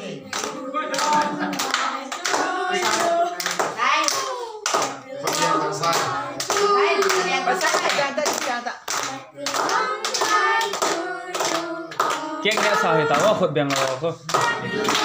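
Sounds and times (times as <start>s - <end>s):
children singing: 0.0s - 8.1s, 9.0s - 13.5s, 14.3s - 15.0s.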